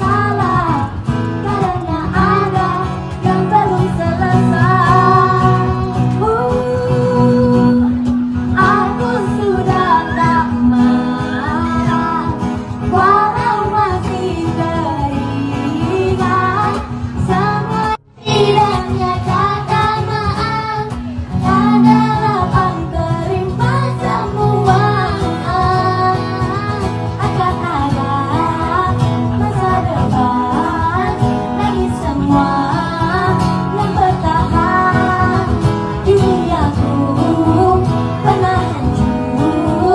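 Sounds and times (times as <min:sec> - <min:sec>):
acoustic guitar: 0:00.0 - 0:39.9
girl singing: 0:00.0 - 0:39.9
woman singing: 0:00.0 - 0:39.9.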